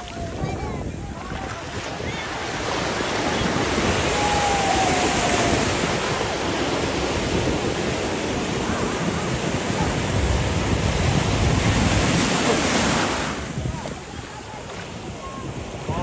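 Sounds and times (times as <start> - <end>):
surf breaking in shallows: 0.0 - 16.0
wind on microphone: 0.0 - 16.0.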